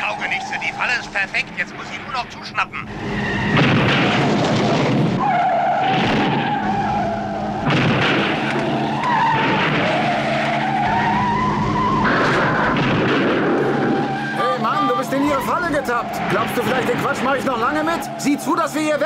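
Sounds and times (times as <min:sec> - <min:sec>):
tyres squealing: 0:00.0 - 0:04.4, 0:05.2 - 0:19.0
car engines running: 0:00.0 - 0:19.0.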